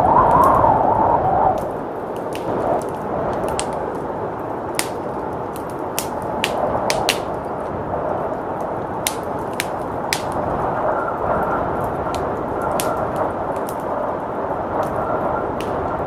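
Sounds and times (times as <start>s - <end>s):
rushing blizzard wind: 0.0s - 16.0s
fireplace crackling and popping: 1.4s - 16.0s.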